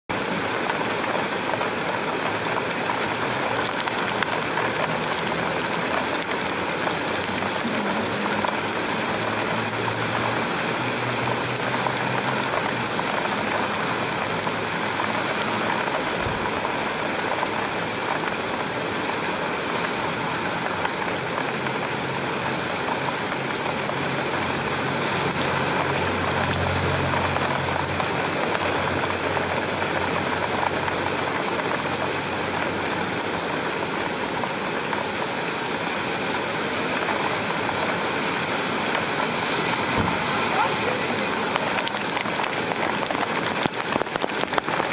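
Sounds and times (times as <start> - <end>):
heavy rain pouring on roofs: 0.1 - 44.9.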